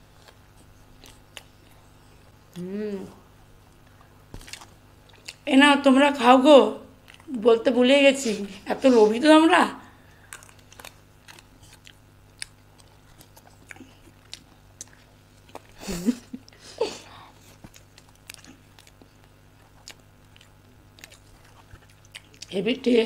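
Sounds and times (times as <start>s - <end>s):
people chewing cake: 0.0s - 5.5s, 7.0s - 7.4s, 9.9s - 23.0s.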